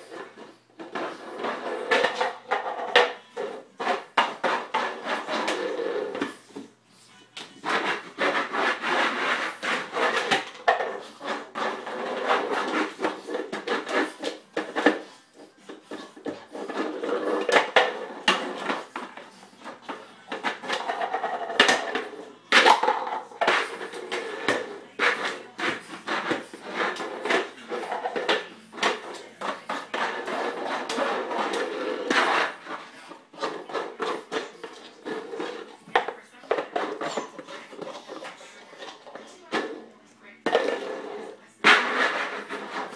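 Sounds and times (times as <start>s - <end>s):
bowl scraping along floor: 0.0s - 6.8s, 7.4s - 42.9s.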